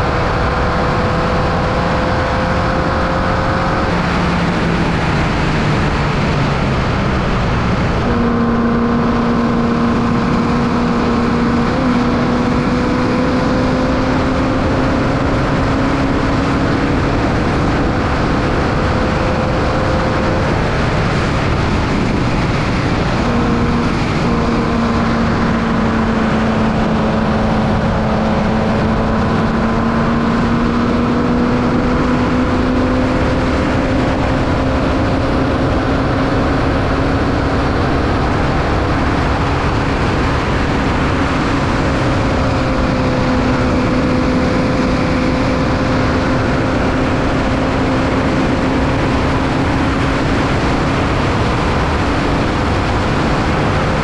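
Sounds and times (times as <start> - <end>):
race car engine under load: 0.0 - 54.0
rush of noise: 0.0 - 54.0.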